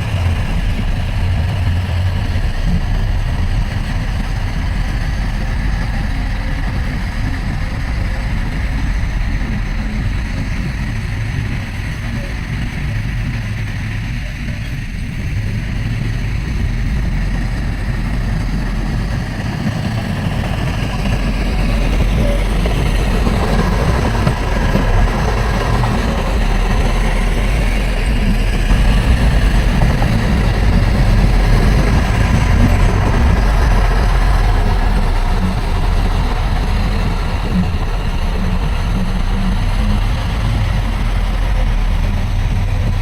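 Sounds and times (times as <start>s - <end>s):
heavy machinery diesel engine: 0.0s - 43.0s.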